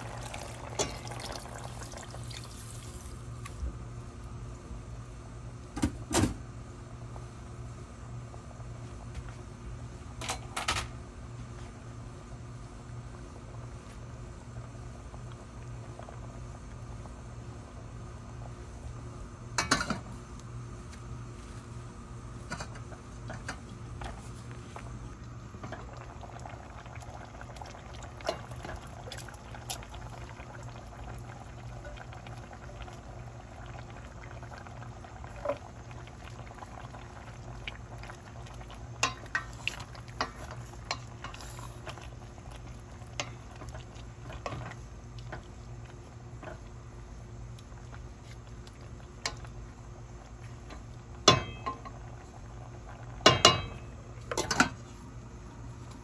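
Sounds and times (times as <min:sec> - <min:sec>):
stew bubbling in a pot: 0:00.0 - 0:56.0.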